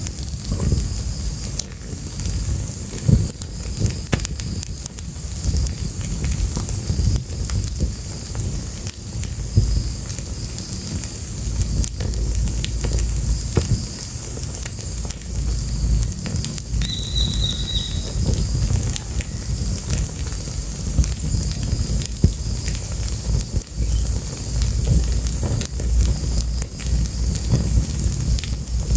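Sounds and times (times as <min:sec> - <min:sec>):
fire crackling and popping: 0:00.0 - 0:28.9.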